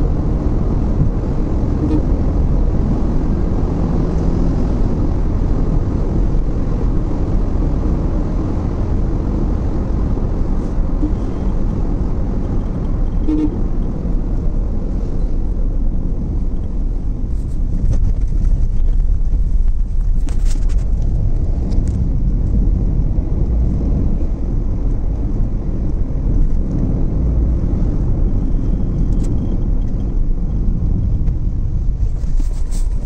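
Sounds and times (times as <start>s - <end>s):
vehicle engine and tyre rumble: 0.0s - 33.0s.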